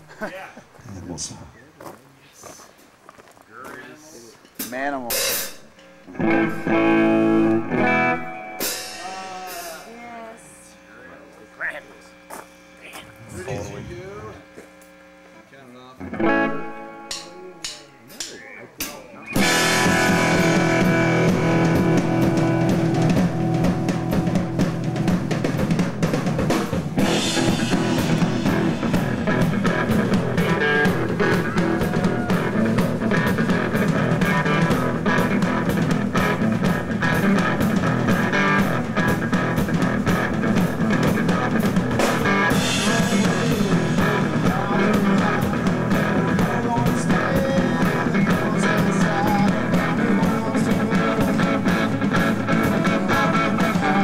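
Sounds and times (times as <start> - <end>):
rock band playing live: 4.7 - 10.0, 16.0 - 54.0.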